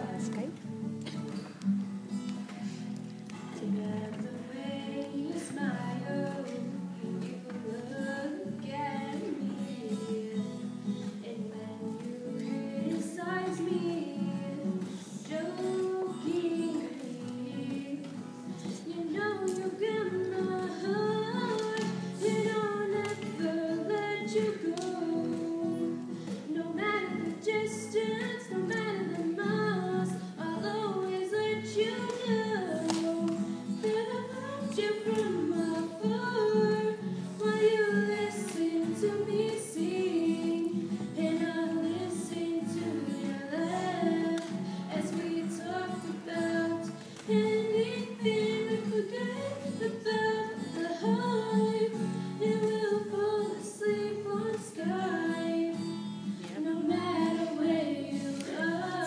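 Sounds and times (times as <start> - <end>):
acoustic guitar: 0.0 - 59.0
girls singing: 3.4 - 59.0.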